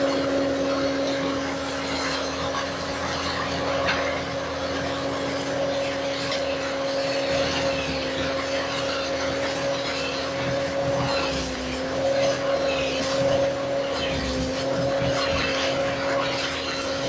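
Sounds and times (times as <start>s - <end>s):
skid steer loader engine whine: 0.0s - 17.0s.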